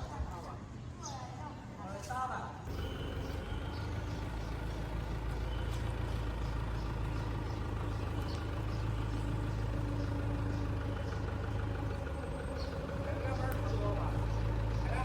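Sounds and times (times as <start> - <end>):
tractor engine humming: 2.6 - 15.0.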